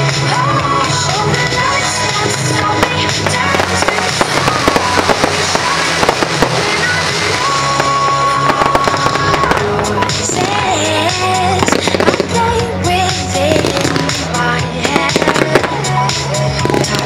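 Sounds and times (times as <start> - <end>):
music playing: 0.0 - 17.0
fireworks popping and cracking: 1.7 - 17.0.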